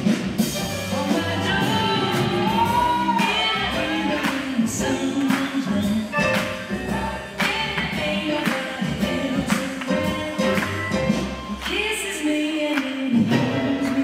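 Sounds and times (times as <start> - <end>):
boogie-woogie song with band: 0.0 - 14.0
steady drum beat: 0.0 - 14.0.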